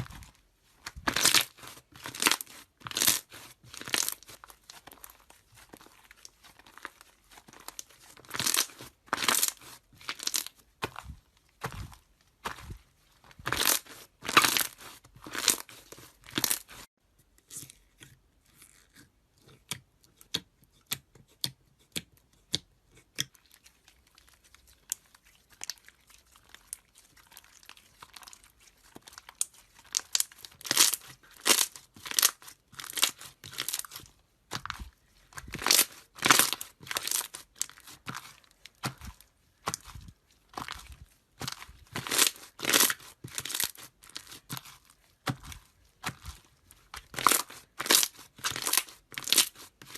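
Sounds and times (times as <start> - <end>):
slime crunching and crackling: 0.0 - 16.9, 22.8 - 49.9.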